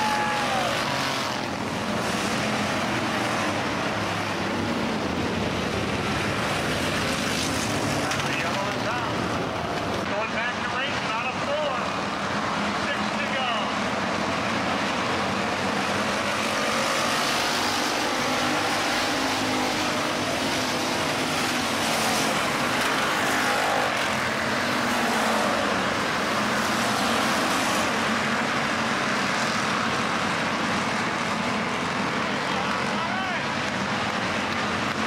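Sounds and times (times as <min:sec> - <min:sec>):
race car engines droning: 0:00.0 - 0:35.0.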